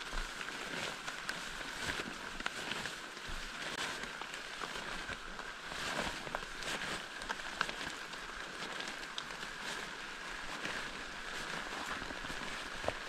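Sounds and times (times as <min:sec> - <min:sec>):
water pattering off leaves: 0:00.0 - 0:13.0
wet undergrowth swishing: 0:00.0 - 0:13.0.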